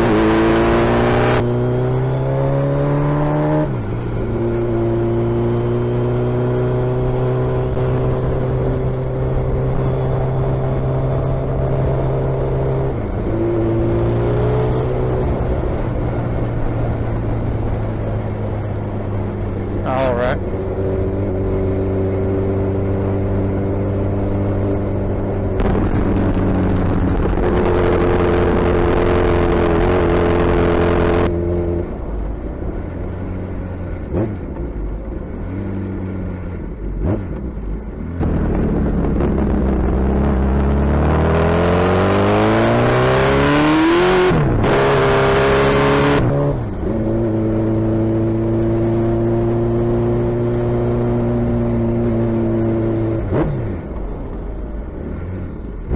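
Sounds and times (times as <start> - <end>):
motorcycle engine revving: 0.0 - 32.1, 33.3 - 55.9.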